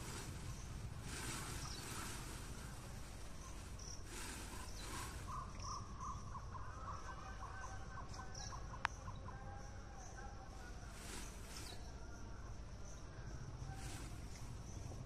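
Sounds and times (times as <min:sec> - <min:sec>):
insects chirping high: 0:00.0 - 0:15.0.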